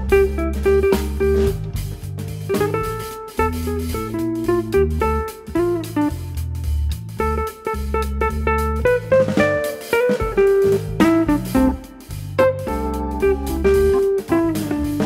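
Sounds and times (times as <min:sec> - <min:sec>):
upbeat guitar instrumental music: 0:00.0 - 0:15.0.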